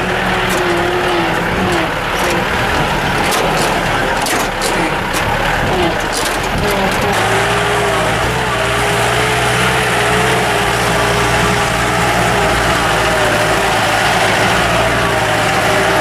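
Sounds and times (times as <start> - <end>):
steady whine: 0.0 - 16.0
vehicle engine running: 0.0 - 16.0.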